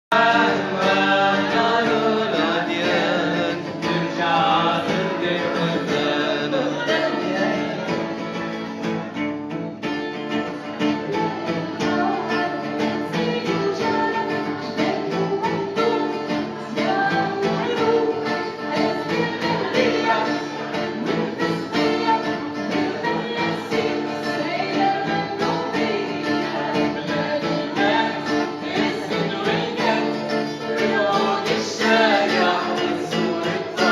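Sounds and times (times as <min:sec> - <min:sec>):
woman singing: 0:00.1 - 0:07.9, 0:10.6 - 0:33.9.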